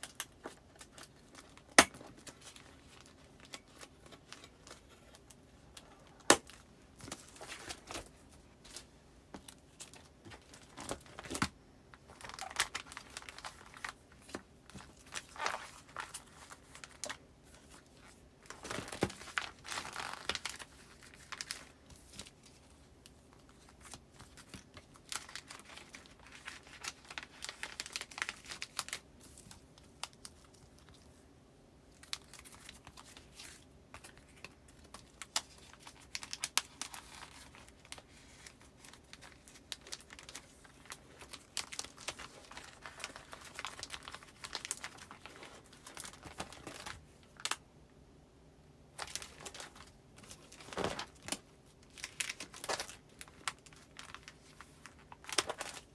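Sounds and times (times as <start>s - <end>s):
plastic and paper crinkling: 0.0s - 31.2s, 31.8s - 47.6s, 48.9s - 55.9s.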